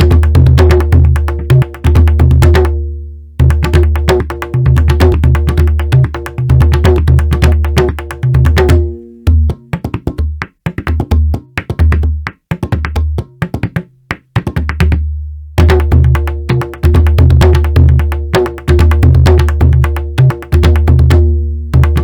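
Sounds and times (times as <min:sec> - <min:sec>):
indian percussion rhythm: 0:00.0 - 0:22.0.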